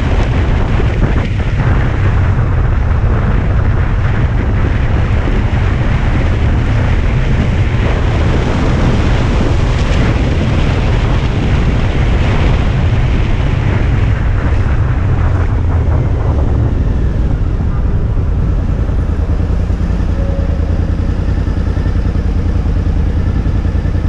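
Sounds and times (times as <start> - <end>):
motorcycle engine running low: 0.0 - 24.0
wind and road noise: 0.0 - 24.0.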